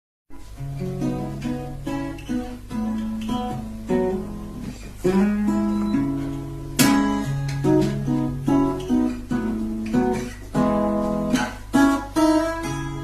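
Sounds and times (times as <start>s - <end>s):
fingerstyle acoustic guitar: 0.3s - 13.0s
strummed guitar chord: 0.5s - 13.0s.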